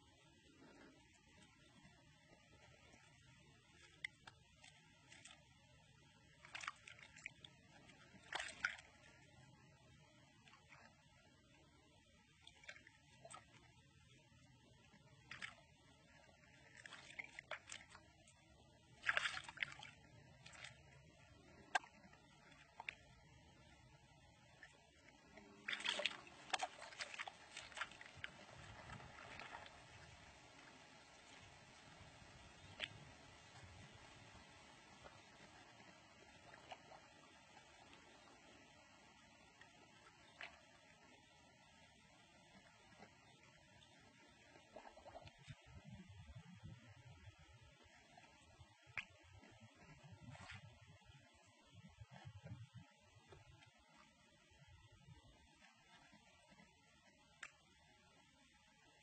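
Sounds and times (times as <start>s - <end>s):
fish splashing in shallow water: 0.1s - 59.0s.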